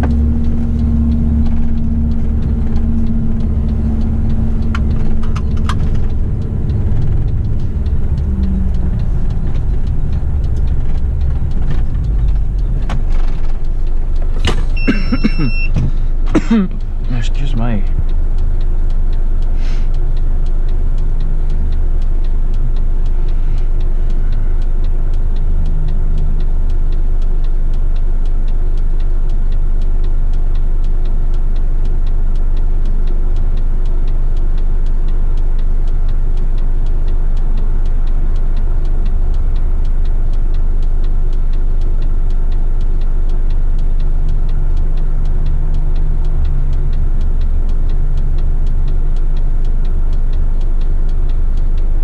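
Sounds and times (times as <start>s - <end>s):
truck diesel engine running: 0.0s - 29.2s, 36.7s - 52.0s.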